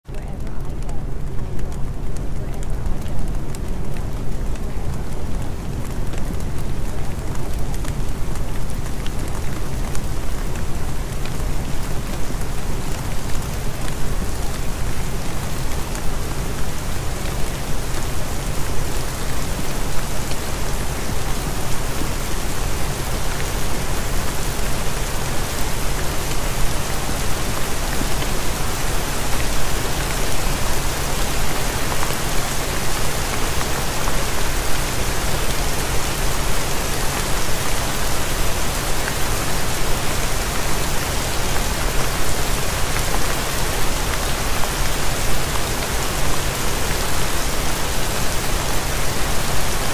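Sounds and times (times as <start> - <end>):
rain-like hiss: 0.1 - 49.9.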